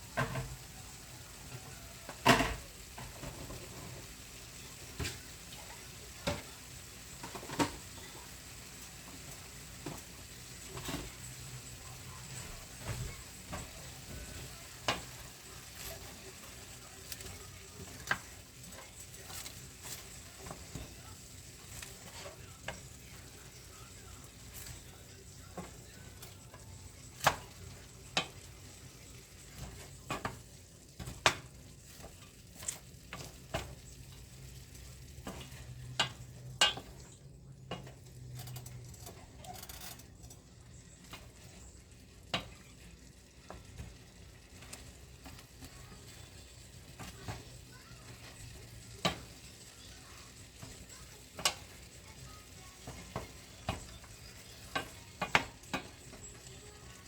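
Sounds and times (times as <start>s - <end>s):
food sizzling in a pan: 0.0s - 57.0s
utensil clicking against pan: 9.1s - 57.0s.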